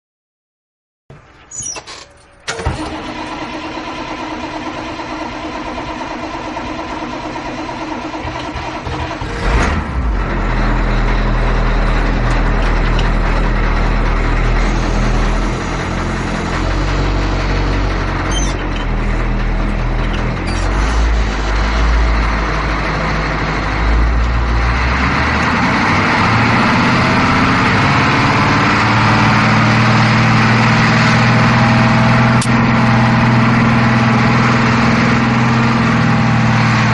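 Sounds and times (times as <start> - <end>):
bus engine starting and running: 1.1 - 36.9.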